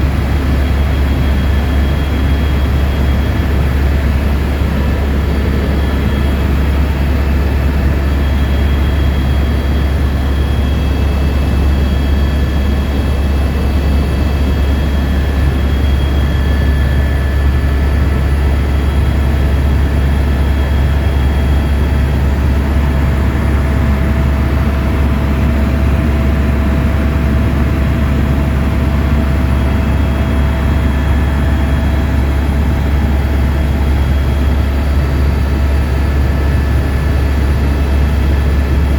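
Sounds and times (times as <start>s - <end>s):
helicopter flying: 0.0s - 38.9s.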